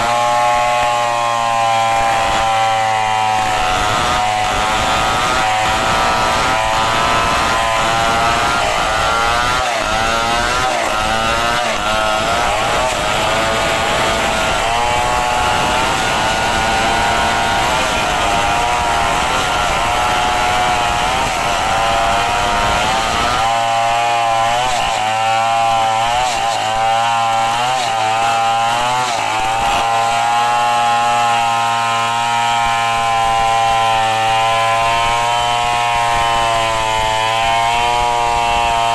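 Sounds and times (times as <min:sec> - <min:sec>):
chainsaws cutting wood: 0:00.0 - 0:38.9.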